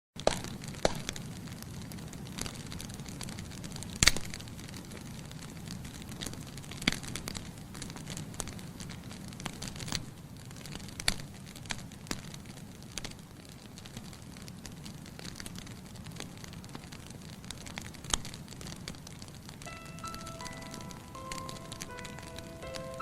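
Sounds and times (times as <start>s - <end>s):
bonfire crackling and popping: 0.2s - 23.0s.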